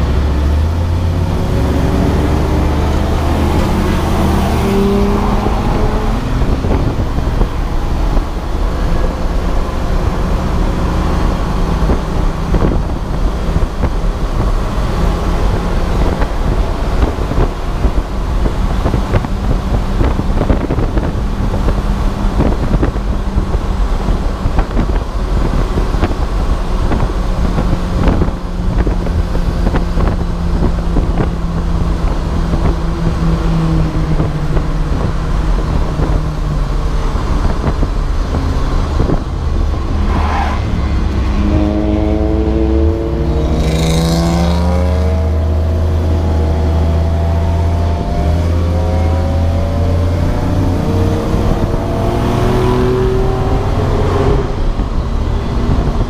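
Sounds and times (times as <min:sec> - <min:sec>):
race car engine pulling hard: 0:00.0 - 0:56.0
wind noise: 0:00.0 - 0:56.0.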